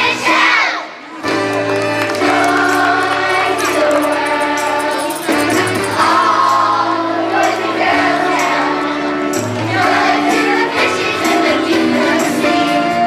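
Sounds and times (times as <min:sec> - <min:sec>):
children's chorus singing: 0:00.0 - 0:01.1, 0:02.2 - 0:13.0
light jingling percussion: 0:02.2 - 0:13.0.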